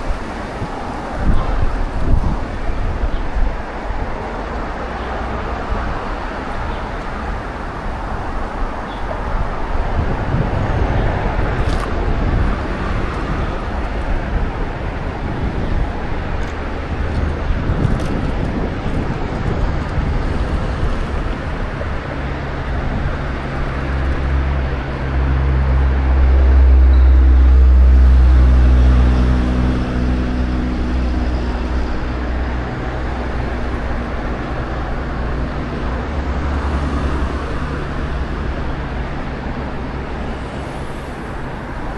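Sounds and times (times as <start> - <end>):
road traffic: 0.0 - 41.9
wind on microphone: 0.0 - 41.9.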